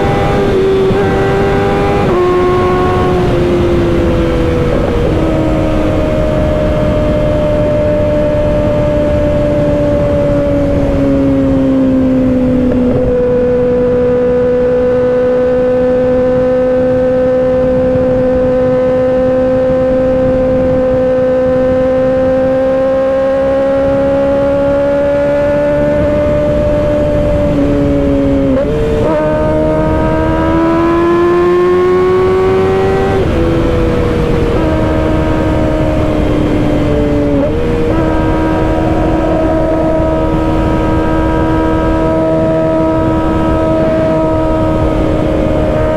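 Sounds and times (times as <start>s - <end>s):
motorcycle engine revving: 0.0s - 45.9s
wind noise: 0.0s - 45.9s.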